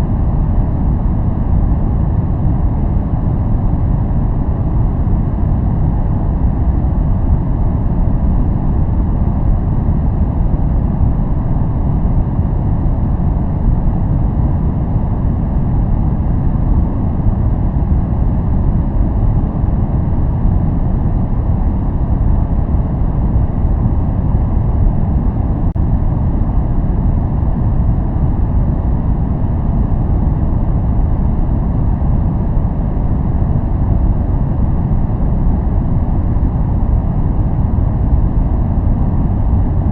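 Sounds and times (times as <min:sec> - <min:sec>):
deep white noise hiss: 0:00.0 - 0:39.9.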